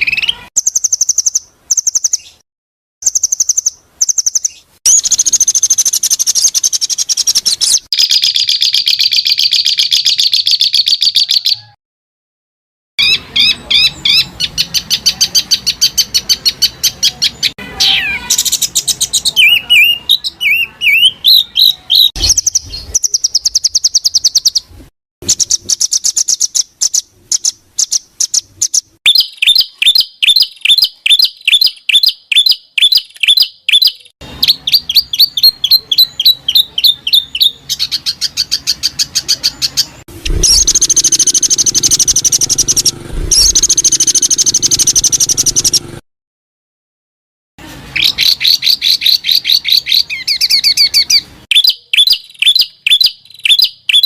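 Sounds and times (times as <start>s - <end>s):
songbirds singing trills: 0.0s - 2.4s, 3.0s - 11.8s, 13.0s - 46.0s, 47.9s - 54.0s.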